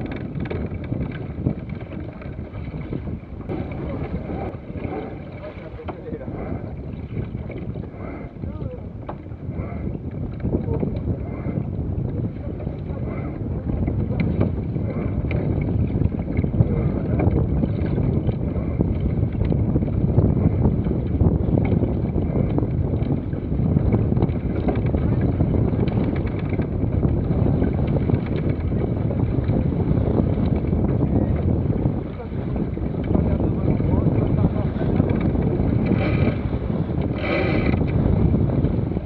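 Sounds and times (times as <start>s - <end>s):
water rushing past hull: 0.0s - 39.0s
wind buffeting microphone: 0.0s - 39.0s.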